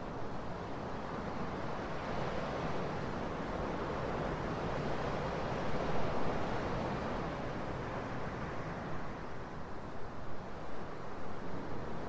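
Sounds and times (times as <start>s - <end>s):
ocean waves washing ashore: 0.0s - 12.0s.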